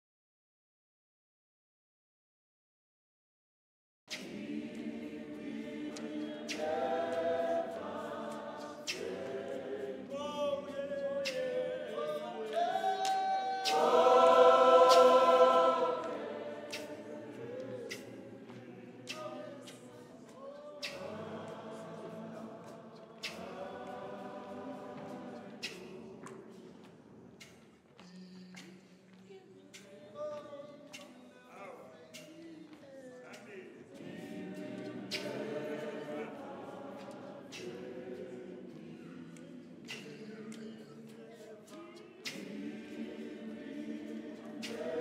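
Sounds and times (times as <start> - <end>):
choir singing gospel in harmony: 4.1 - 27.8, 28.6 - 45.0.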